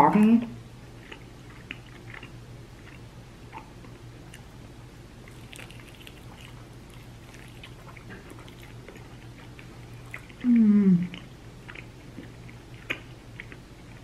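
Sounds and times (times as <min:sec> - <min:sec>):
steady low hum: 0:00.0 - 0:14.0
chewing and wet mouth sounds: 0:01.0 - 0:04.5, 0:05.2 - 0:14.0.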